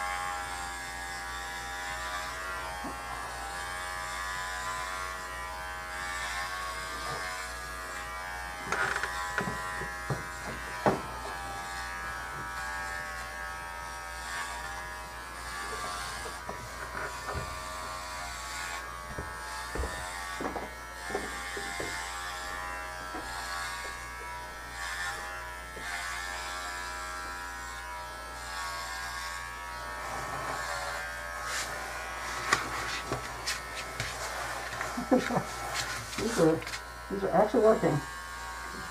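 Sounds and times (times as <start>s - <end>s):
hair clippers buzzing: 0.0s - 38.9s.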